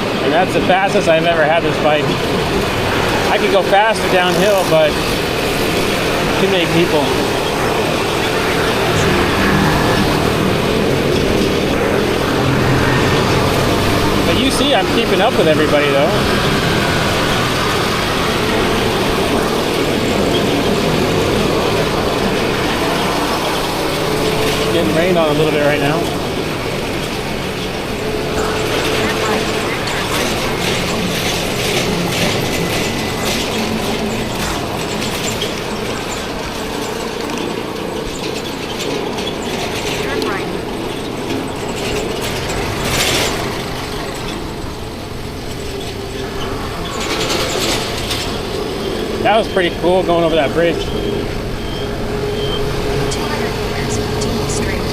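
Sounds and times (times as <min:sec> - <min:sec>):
rushing wind: 0:00.0 - 0:54.9
scooter engine drone: 0:00.0 - 0:54.9
traffic noise: 0:00.0 - 0:54.9.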